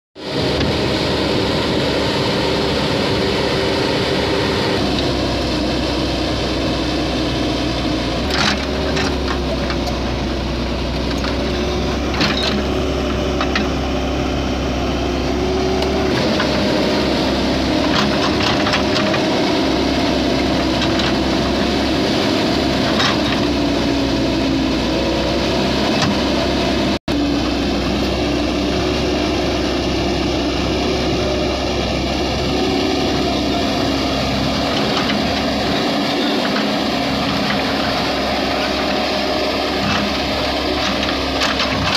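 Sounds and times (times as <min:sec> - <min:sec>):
excavator diesel engine running: 0:00.2 - 0:41.9.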